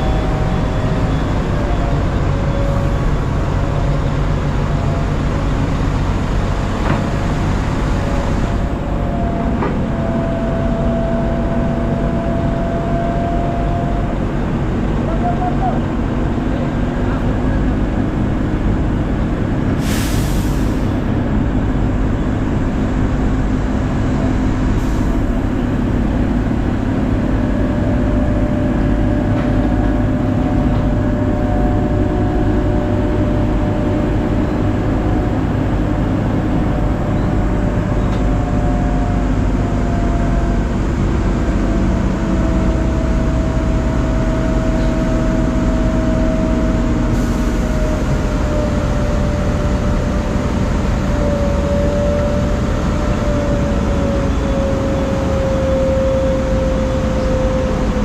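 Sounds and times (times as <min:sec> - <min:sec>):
crane diesel engine running: 0:00.0 - 0:58.0.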